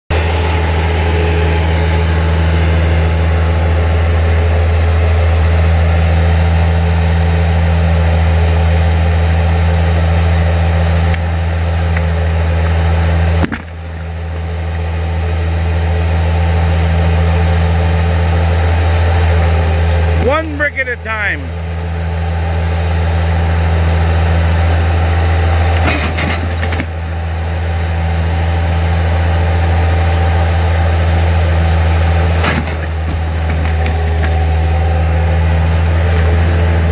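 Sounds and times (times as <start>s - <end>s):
loader engine running: 0.1s - 36.9s.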